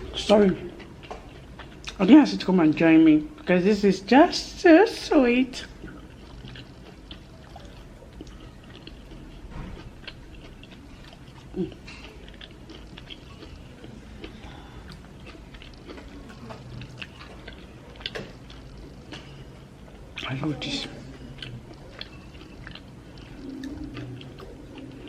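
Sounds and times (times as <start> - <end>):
person chewing food: 0.0 - 2.1, 5.6 - 25.0.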